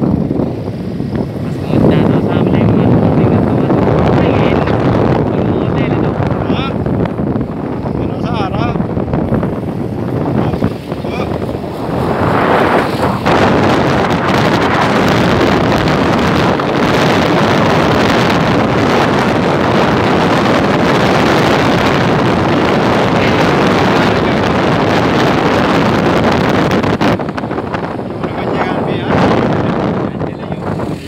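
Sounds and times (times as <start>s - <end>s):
vehicle running noise: 0.0s - 31.0s
wind roaring over microphone: 0.0s - 31.0s.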